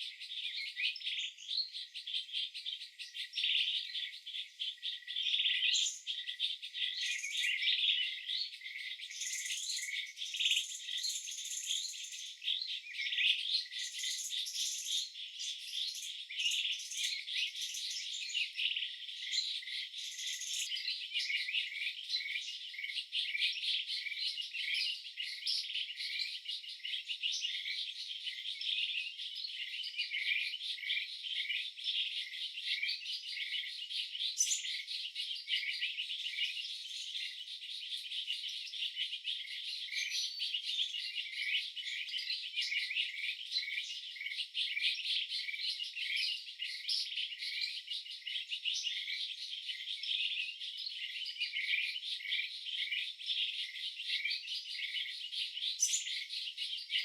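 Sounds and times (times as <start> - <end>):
chorus of high chirps: 2.8 - 56.9.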